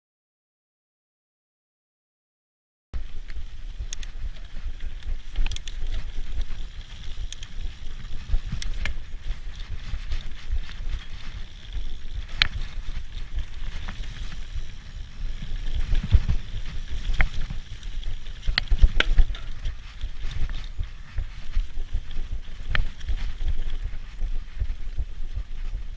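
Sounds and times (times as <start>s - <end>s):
bike rattling over bumps: 3.0s - 25.9s
rumble of tyres and wind: 3.0s - 25.9s.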